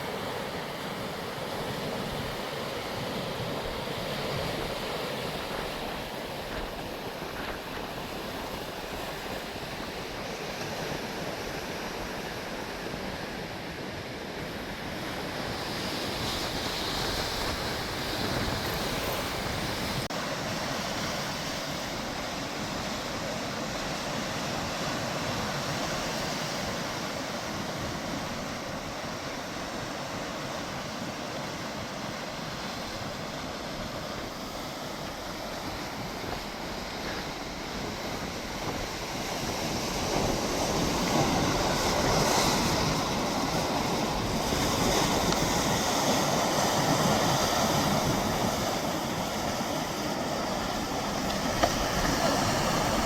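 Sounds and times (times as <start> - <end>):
sea waves washing on shore: 0.0 - 53.0.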